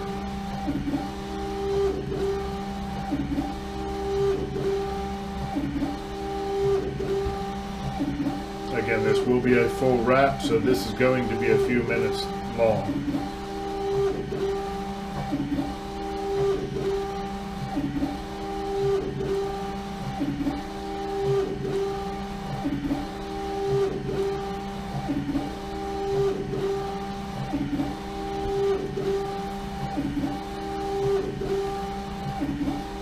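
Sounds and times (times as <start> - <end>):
printer carriage motor sweeping: 0.0 - 33.0.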